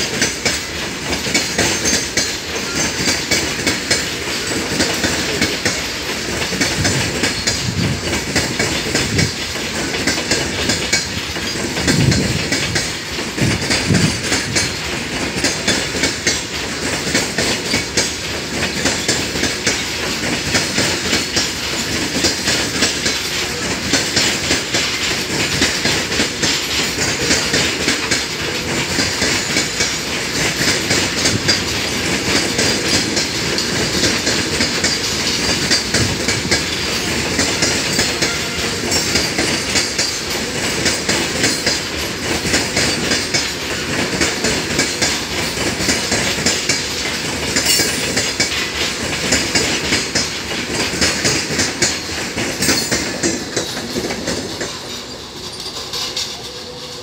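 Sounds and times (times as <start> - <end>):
wagon wheels clattering over rail joints: 0.0 - 57.0.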